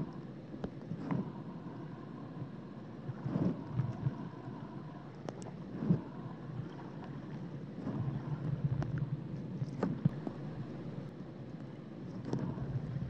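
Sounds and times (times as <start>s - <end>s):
underwater rumble of moving water: 0.0s - 13.0s.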